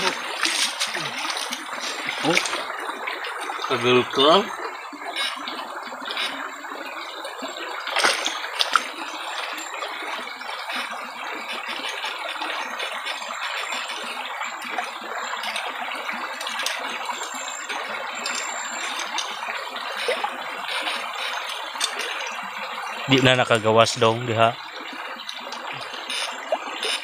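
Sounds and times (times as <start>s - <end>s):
water rushing over stones: 0.0s - 27.0s.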